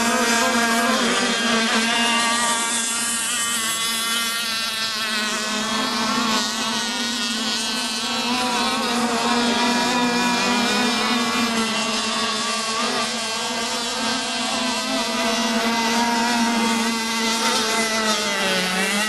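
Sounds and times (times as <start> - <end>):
model boat engines whining: 0.0 - 19.0.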